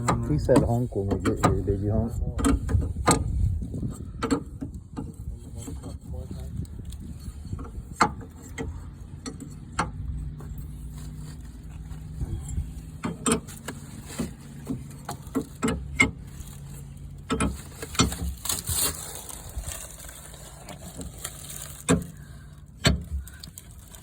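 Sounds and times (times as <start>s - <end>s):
low engine hum: 0.0s - 24.0s.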